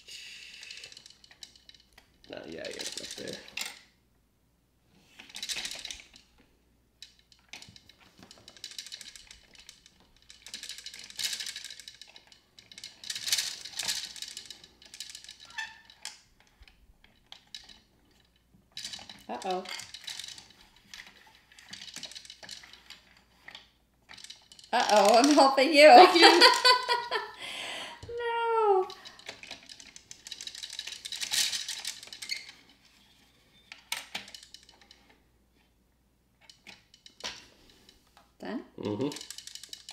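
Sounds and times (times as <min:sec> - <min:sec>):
plastic gears clicking and rattling: 0:00.4 - 0:04.0, 0:05.0 - 0:27.2, 0:28.8 - 0:33.0, 0:33.7 - 0:35.7, 0:36.4 - 0:38.3, 0:38.9 - 0:39.9
plastic tokens clattering: 0:00.6 - 0:03.9, 0:05.2 - 0:06.4, 0:07.0 - 0:32.8, 0:33.7 - 0:35.1, 0:38.8 - 0:39.9.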